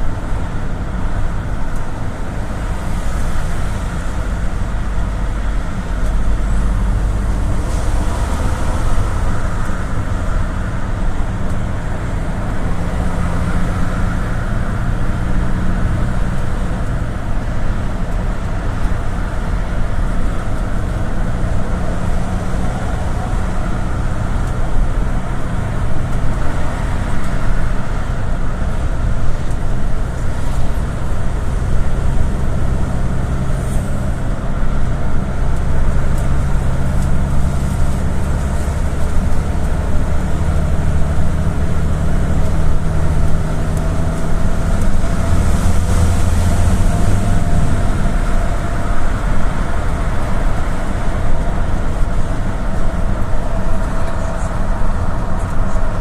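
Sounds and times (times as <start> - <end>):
bus engine drone: 0.0 - 56.0
road and tyre noise: 0.0 - 56.0.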